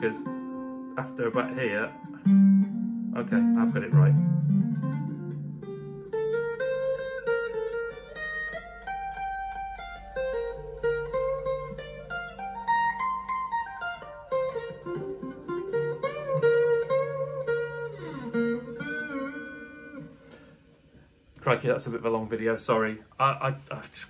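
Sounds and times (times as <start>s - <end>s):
low held tones: 0.0s - 22.2s
electric guitar lead lines: 0.0s - 22.4s.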